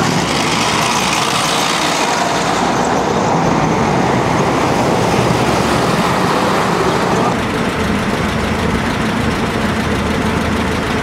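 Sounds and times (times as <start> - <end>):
tracked vehicle engines idling: 0.0 - 11.0
truck engine driving past: 0.0 - 11.0.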